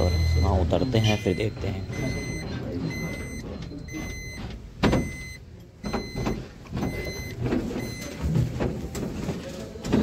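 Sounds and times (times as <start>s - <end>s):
warning beeper: 0.0s - 8.1s.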